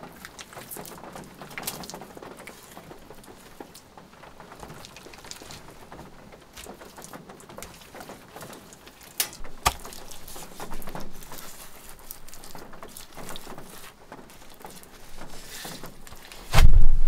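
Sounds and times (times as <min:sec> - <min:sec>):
clay and gloves scraping: 0:00.0 - 0:17.0.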